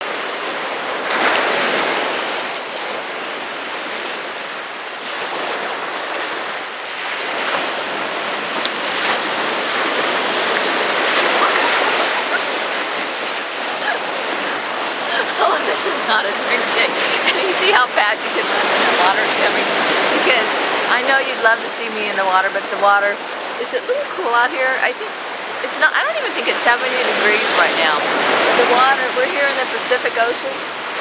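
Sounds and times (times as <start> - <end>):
surf breaking on beach: 0.0 - 31.0.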